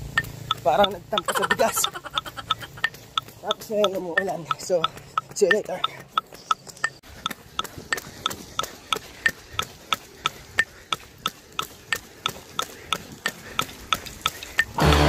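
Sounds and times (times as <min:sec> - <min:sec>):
metronome ticking: 0:00.0 - 0:15.0.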